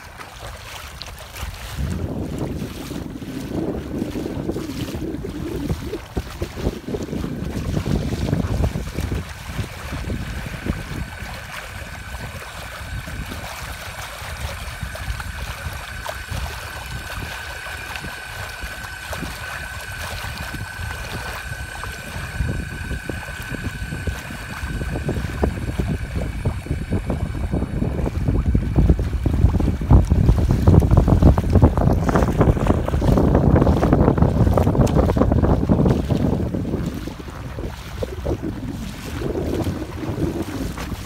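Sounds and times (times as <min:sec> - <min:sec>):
water rushing past a kayak: 0:00.0 - 0:41.0
wind buffeting the microphone: 0:00.0 - 0:41.0
electric motor whine: 0:02.5 - 0:35.9.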